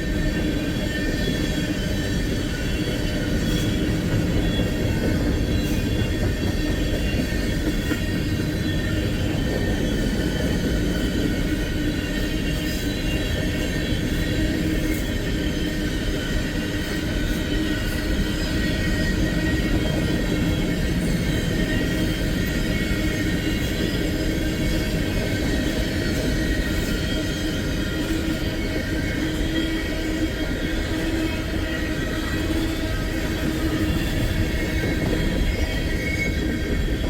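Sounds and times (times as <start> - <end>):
train wheels rumbling on rail: 0.0 - 37.0
wheel squeal: 0.0 - 37.0.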